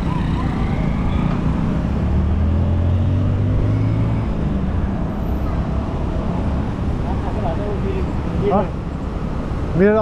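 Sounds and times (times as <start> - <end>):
vehicle engine humming: 0.0 - 10.0
wind and road noise: 0.0 - 10.0.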